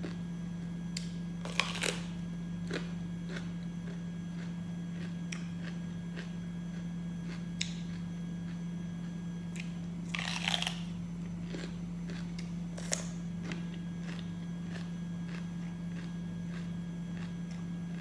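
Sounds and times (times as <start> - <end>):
steady low hum: 0.0 - 18.0
bell pepper crunching: 0.9 - 18.0.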